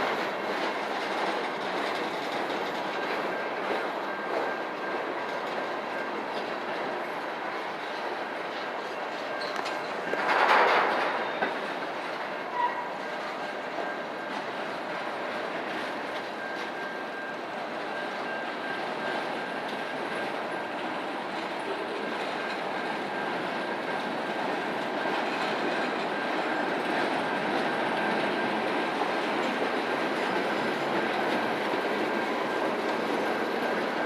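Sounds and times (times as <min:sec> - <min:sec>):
high ringing tone from rails: 0:00.0 - 0:34.0
train wheels rumbling on rails: 0:00.0 - 0:34.0.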